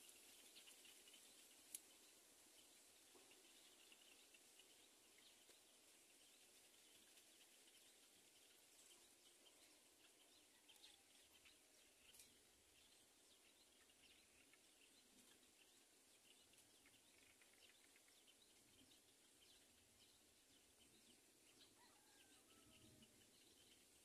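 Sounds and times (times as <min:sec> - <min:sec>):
tiny high-pitched ticks: 0:00.0 - 0:19.8.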